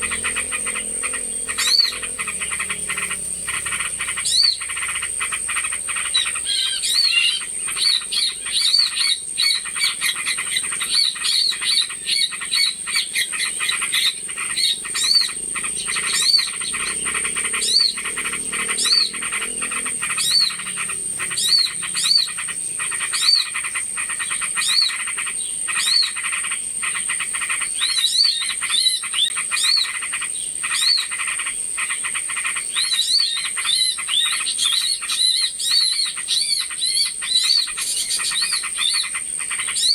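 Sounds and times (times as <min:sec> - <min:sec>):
rapid bird chatter: 0:00.0 - 0:39.9
small birds chirping: 0:00.0 - 0:39.9.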